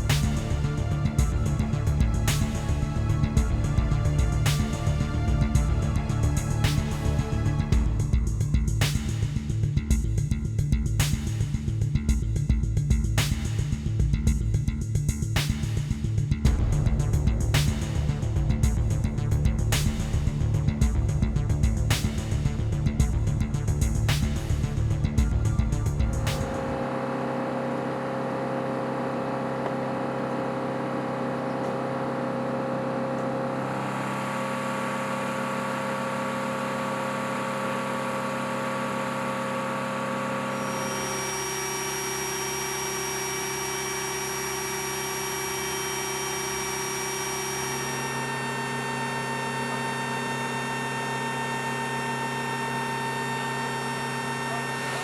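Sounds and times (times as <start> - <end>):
machinery hum with high whine: 0.0 - 10.0, 16.1 - 55.0.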